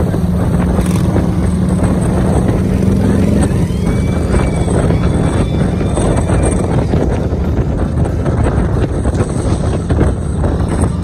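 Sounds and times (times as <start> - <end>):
car road noise at highway speed: 0.0 - 11.0
steady wind rush: 0.0 - 11.0
wind buffeting microphone: 0.0 - 11.0.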